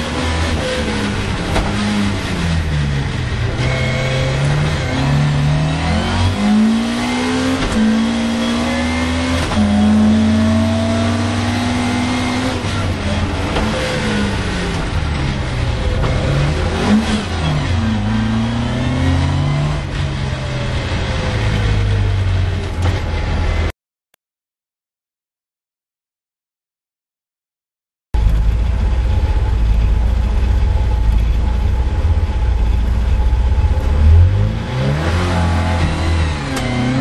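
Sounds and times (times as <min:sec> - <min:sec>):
car engine revving: 0:00.0 - 0:23.7, 0:28.2 - 0:37.0.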